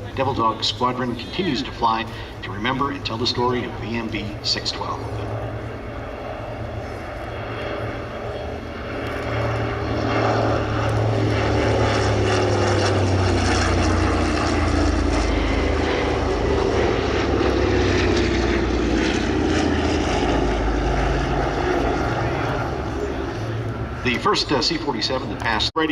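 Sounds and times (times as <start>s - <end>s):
propeller plane flying past: 0.0s - 25.9s.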